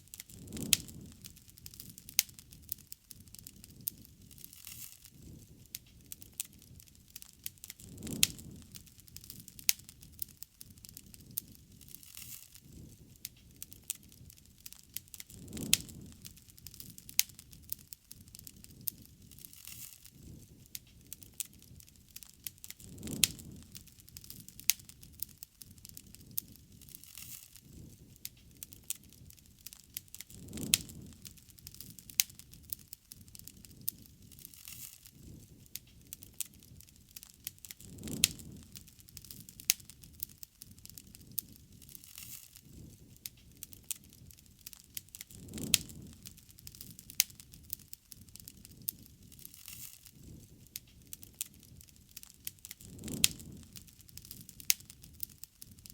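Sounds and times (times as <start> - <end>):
low flutter of flame: 0.0 - 55.9
wood fire crackling and popping: 0.0 - 55.9.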